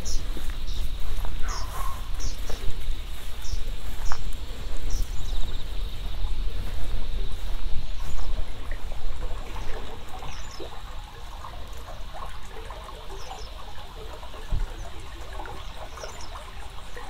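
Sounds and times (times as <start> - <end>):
faint insects calling: 0.0 - 17.0
water trickling and gurgling: 0.0 - 17.0
wind rumbling on microphone: 0.0 - 17.0.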